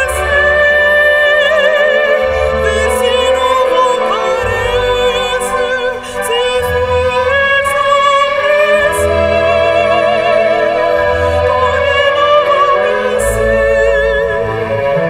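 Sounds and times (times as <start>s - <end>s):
instrumental accompaniment: 0.0s - 15.0s
woman singing opera: 0.0s - 15.0s.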